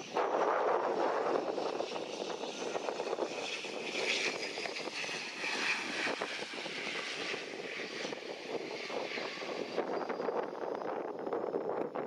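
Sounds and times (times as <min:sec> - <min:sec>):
high engine whine: 0:00.0 - 0:12.0
turboprop engines overhead: 0:00.0 - 0:12.0.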